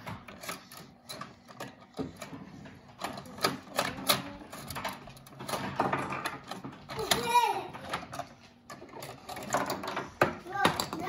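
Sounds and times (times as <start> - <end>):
plastic toy cars on wooden table: 0.0 - 11.0.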